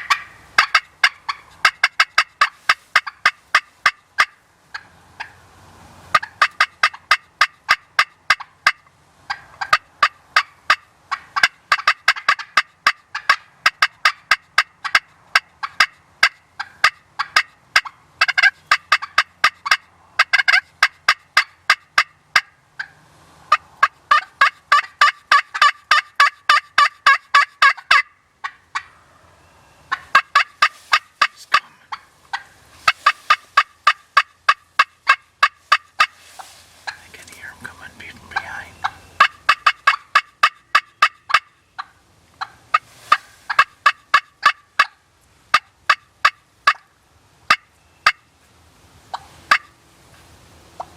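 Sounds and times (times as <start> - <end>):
turkey calling: 0.0 - 5.4, 6.1 - 48.3, 49.1 - 49.8.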